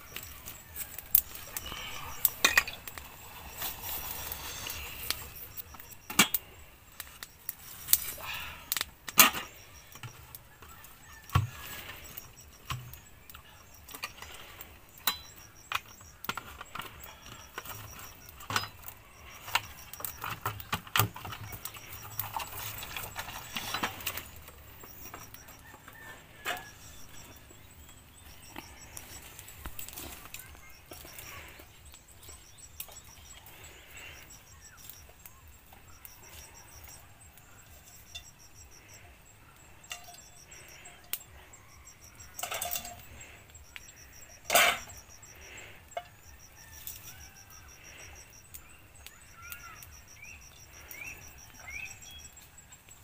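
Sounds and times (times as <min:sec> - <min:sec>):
camping gear clinking in basket: 0:00.0 - 0:39.1, 0:39.7 - 0:45.3.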